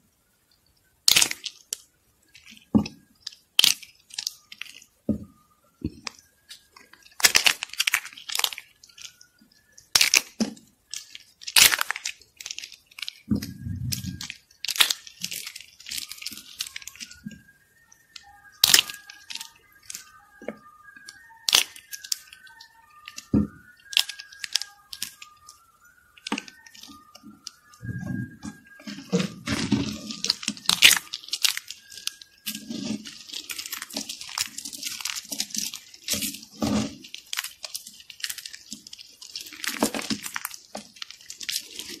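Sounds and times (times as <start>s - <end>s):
soap flakes crackling: 0.6s - 42.0s.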